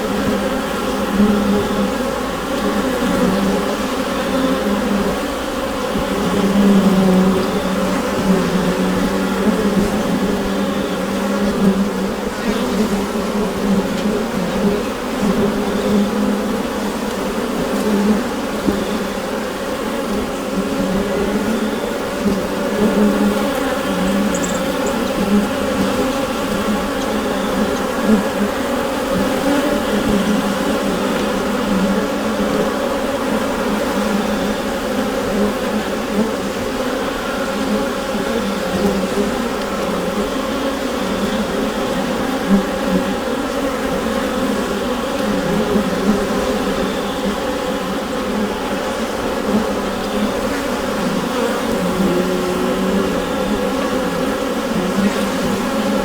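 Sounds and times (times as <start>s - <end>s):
bees buzzing in a hive: 0.0s - 56.0s.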